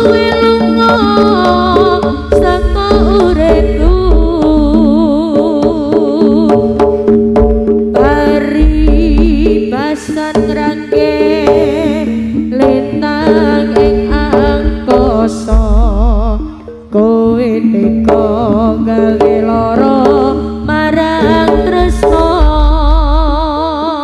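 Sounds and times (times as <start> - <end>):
hand drums beating: 0.0 - 23.6
low drum thuds: 0.0 - 23.6.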